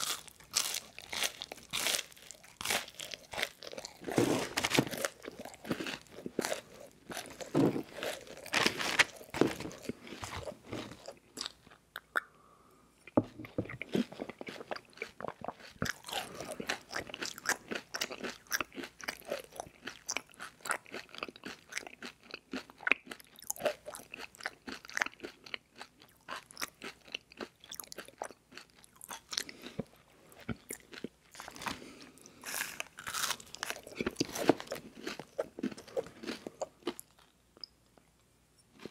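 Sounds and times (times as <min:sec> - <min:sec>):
crunchy chewing: 0:00.0 - 0:12.2, 0:13.0 - 0:37.7.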